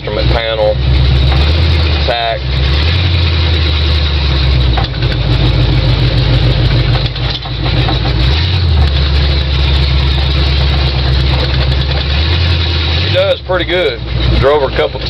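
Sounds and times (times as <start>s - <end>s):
loud engine drone: 0.0s - 15.0s.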